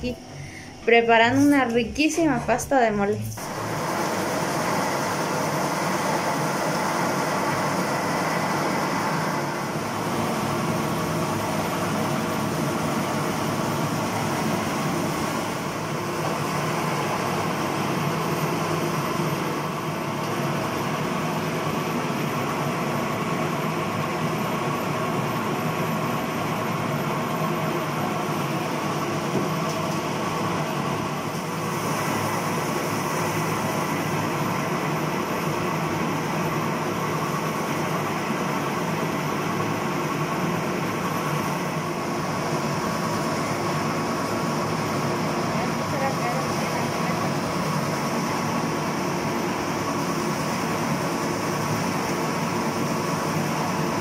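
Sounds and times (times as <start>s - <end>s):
electric mill grinding: 3.4s - 54.0s.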